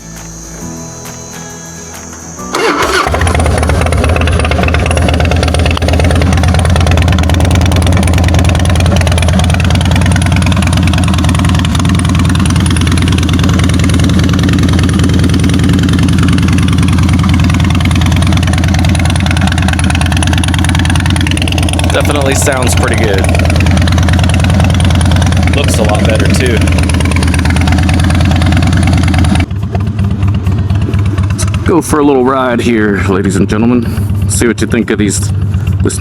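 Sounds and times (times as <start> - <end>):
motorcycle engine idling: 2.5 - 36.0.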